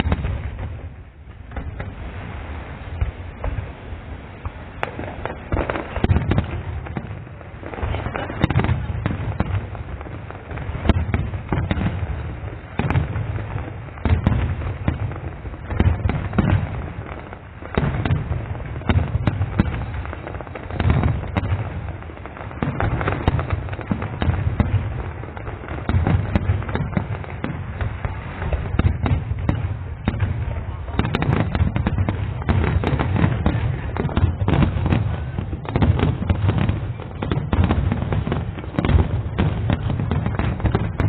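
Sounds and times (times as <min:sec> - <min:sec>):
deep fireworks booms: 0:00.0 - 0:41.0.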